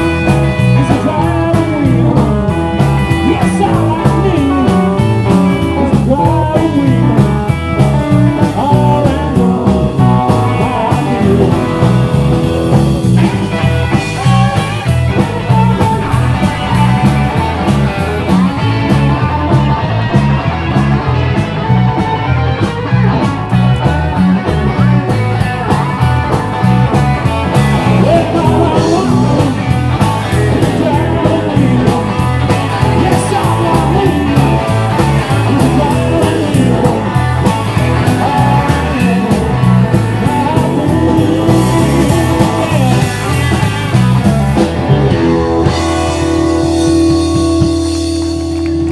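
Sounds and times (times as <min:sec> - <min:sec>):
live rock and roll band: 0:00.0 - 0:48.9.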